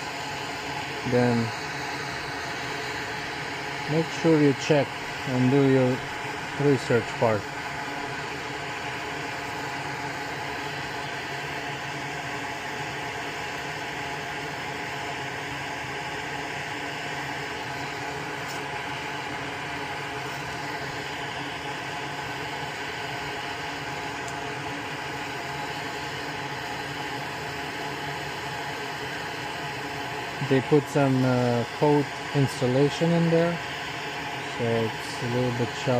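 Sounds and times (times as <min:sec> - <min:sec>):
fan motor humming: 0:00.0 - 0:35.9.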